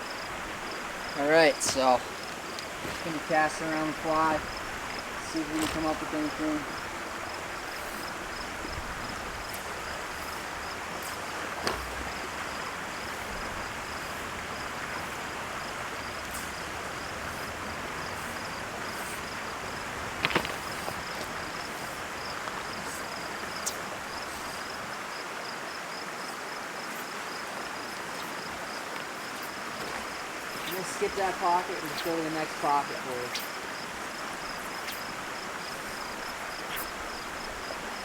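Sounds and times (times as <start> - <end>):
insects chirping: 0.0 - 38.0
river rushing over rocks: 0.0 - 38.0.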